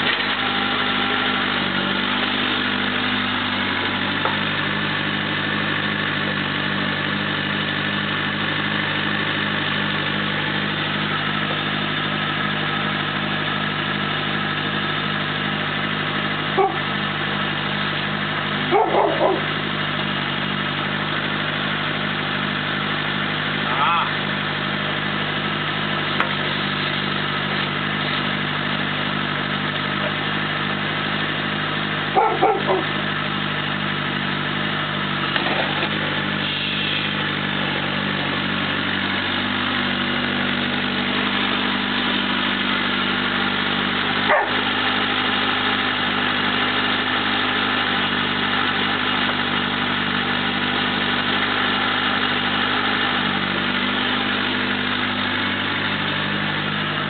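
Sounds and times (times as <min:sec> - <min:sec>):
diesel engine running: 0:00.0 - 0:57.0
hydraulic arm digging soil: 0:00.0 - 0:57.0.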